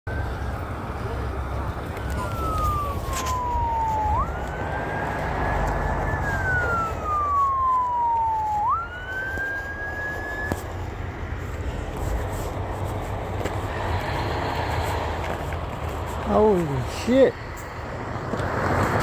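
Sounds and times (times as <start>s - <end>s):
emergency vehicle siren wailing: 0.1s - 19.0s.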